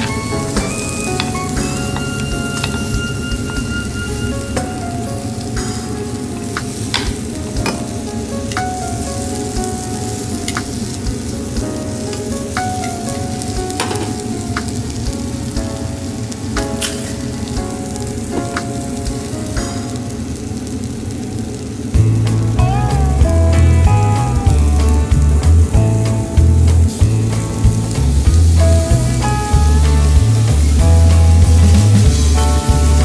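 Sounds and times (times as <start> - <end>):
onion rings sizzling in oil: 0.0 - 33.0.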